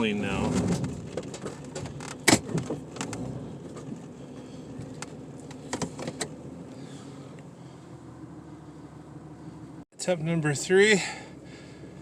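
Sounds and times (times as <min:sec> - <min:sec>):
vehicle engine running: 0:00.1 - 0:12.0.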